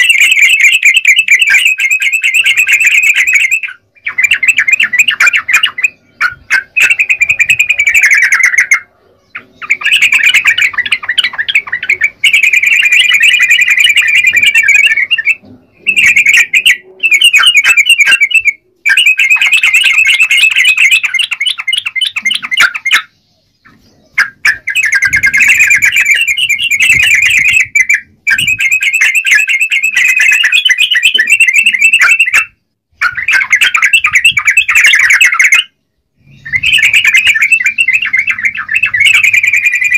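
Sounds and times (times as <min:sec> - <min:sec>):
bird singing bubbly chatter: 0:00.0 - 0:39.9.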